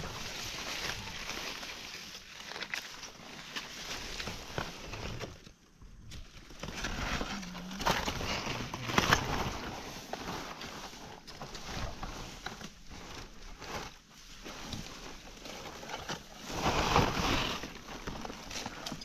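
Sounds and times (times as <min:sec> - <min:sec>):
dry leaves rustling and crackling: 0:00.0 - 0:05.4, 0:06.2 - 0:18.8.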